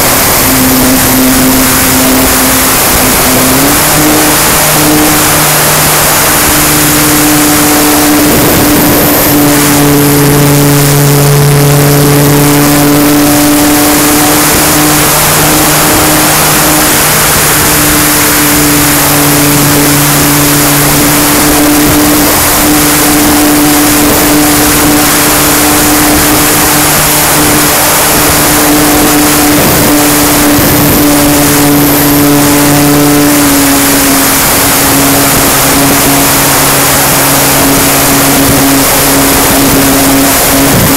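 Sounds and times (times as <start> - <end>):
propeller drone: 0.0 - 40.9
wind rushing across microphone: 0.0 - 40.9.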